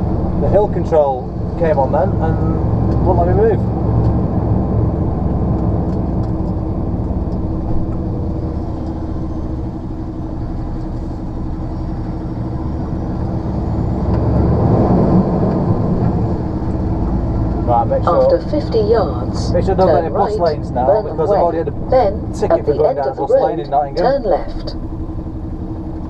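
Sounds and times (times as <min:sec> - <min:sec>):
lorry diesel engine rumbling: 0:00.0 - 0:26.0.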